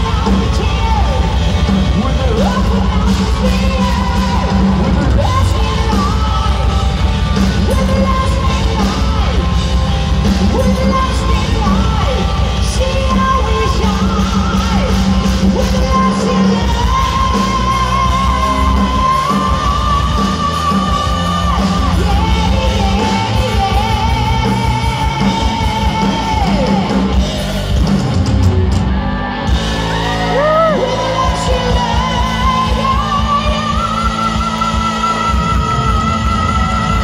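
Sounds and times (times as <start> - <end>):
heavy metal band playing: 0.0 - 37.0
singer holding long notes: 0.0 - 37.0.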